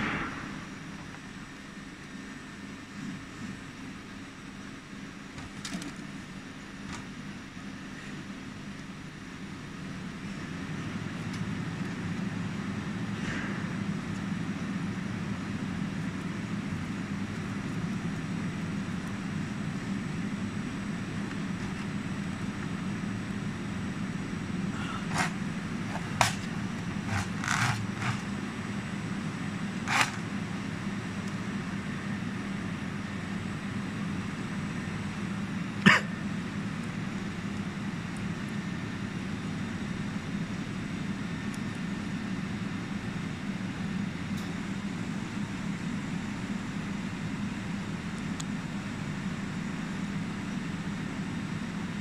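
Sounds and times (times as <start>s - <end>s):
workshop machinery hum: 0.0s - 52.0s.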